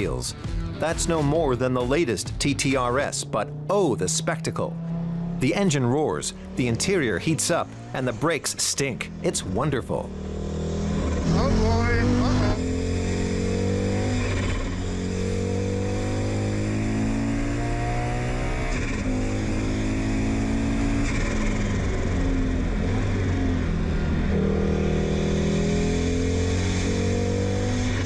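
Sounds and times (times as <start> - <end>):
rally car engine running hard: 0.0 - 28.0.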